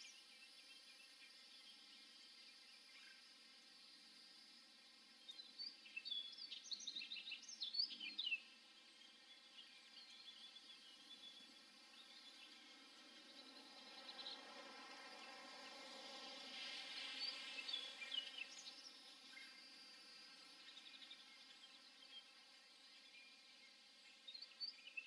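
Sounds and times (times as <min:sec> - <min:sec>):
soft outdoor hiss: 0:00.0 - 0:25.0.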